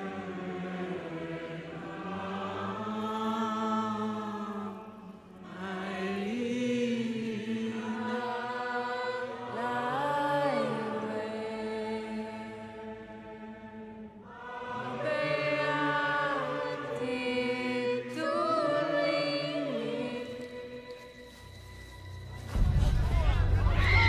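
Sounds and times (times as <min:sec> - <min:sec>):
wordless vocal chant: 0:00.0 - 0:21.8.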